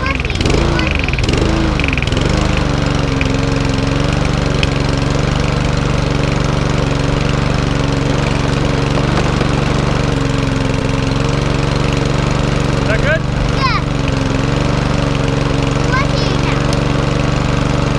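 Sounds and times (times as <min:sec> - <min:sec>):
lawnmower engine running: 0:00.0 - 0:17.9.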